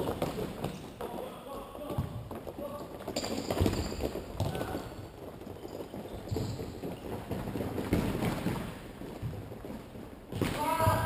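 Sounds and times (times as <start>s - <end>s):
footsteps on indoor court: 0.0s - 11.0s.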